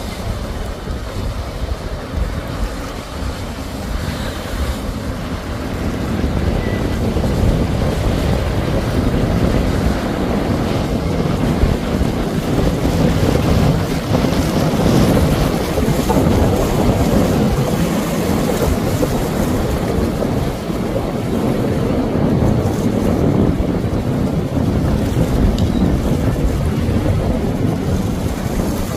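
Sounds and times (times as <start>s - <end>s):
boat engine and wash rumbling: 0.0s - 28.9s
wind noise on microphone: 0.0s - 28.9s.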